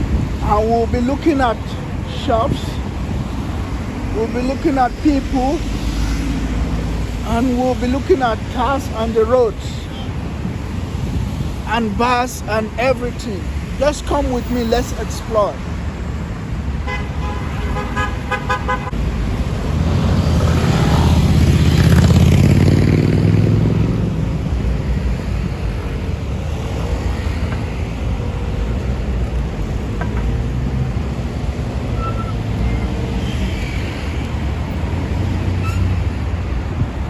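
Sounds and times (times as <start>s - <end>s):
vehicle passing close: 0.0s - 12.3s, 18.9s - 37.0s
low traffic rumble: 0.0s - 37.0s.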